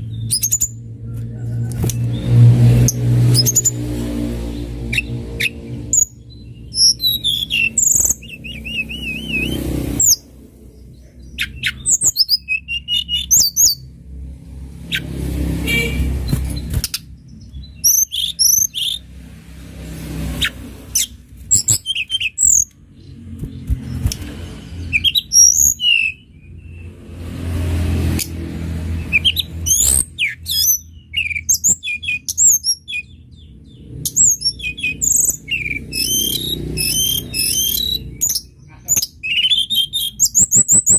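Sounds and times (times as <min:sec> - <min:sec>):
bird chirping and twittering: 0:00.0 - 0:40.9.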